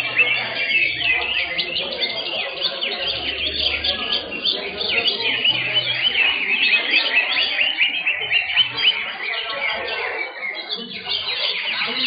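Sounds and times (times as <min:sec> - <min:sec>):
chorus of songbirds chirping: 0:00.0 - 0:12.0.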